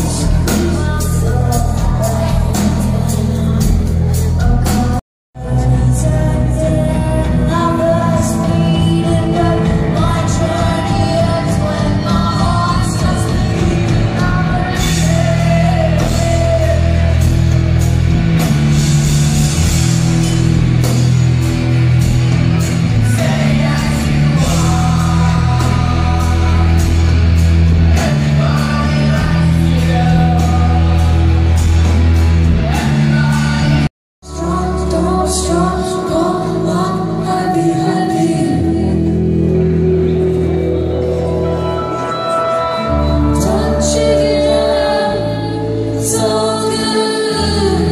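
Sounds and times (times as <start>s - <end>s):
person singing: 0.0s - 17.7s, 22.6s - 32.0s, 32.6s - 47.9s
live rock band: 0.0s - 47.9s.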